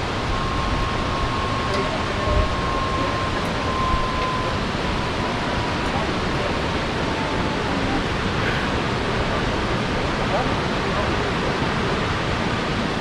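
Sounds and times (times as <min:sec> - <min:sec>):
faint thin whine: 0:00.0 - 0:12.0
waterfall roaring: 0:00.0 - 0:13.0.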